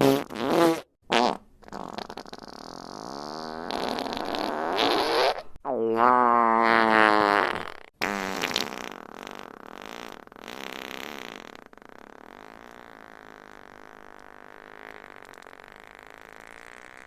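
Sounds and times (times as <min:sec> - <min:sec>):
farts: 0:00.0 - 0:17.0.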